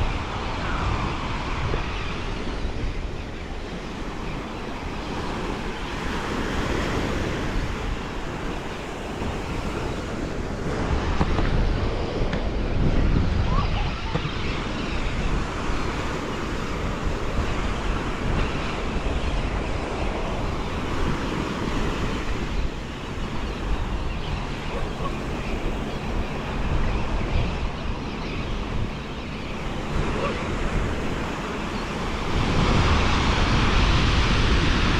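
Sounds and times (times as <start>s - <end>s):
ocean surf breaking: 0.0s - 34.9s
wind rumbling on microphone: 0.0s - 34.9s.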